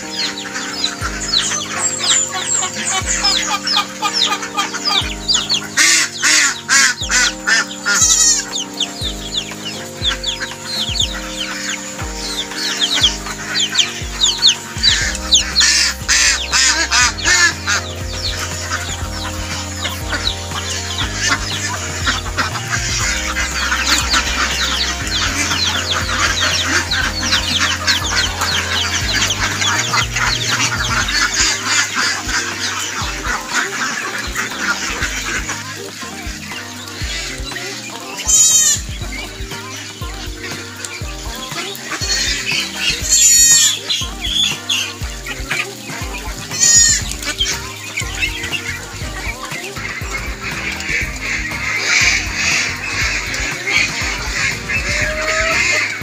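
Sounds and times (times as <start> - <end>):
background music: 0.0 - 56.0
flock of ducks calling: 0.0 - 56.0.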